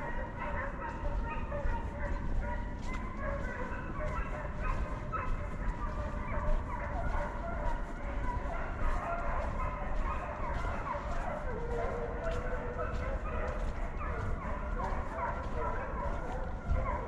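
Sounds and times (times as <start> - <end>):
hunting dogs barking and baying: 0.0 - 17.0.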